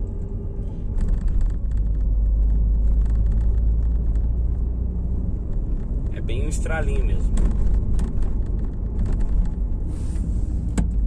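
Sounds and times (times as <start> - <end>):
tyres and suspension rumbling: 0.0 - 11.0.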